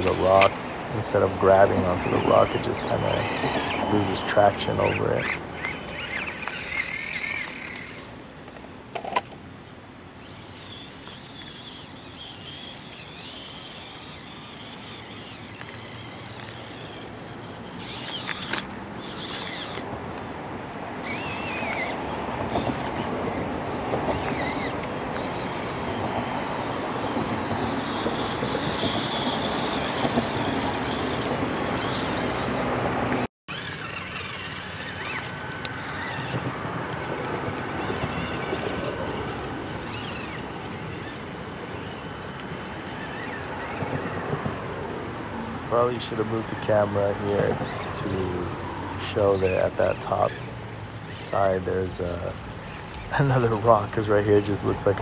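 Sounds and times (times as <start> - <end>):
small electric motor whirring: 0.0 - 55.0.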